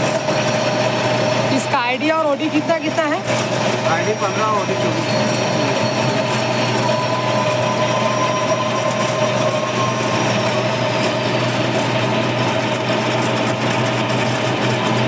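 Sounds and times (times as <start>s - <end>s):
lathe machine hum and whine: 0.0s - 15.0s.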